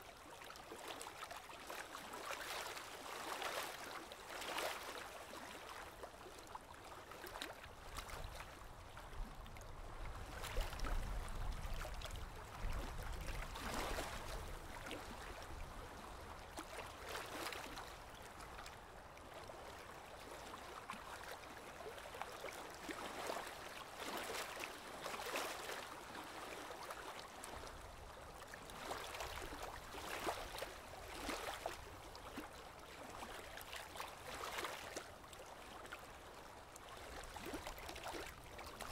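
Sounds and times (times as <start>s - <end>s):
small water splashes: 0.0s - 38.9s.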